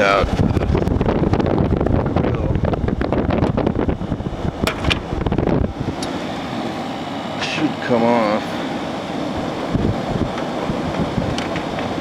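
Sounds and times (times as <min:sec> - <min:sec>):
air conditioner humming: 0:00.0 - 0:12.0
wind buffeting microphone: 0:00.0 - 0:12.0.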